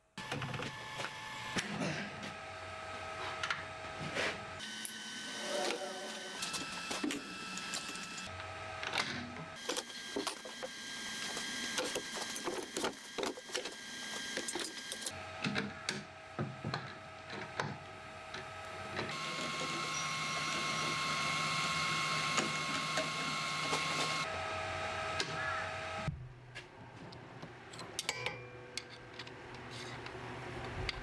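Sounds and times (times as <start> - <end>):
wood lathe motor running: 0.2 - 26.1.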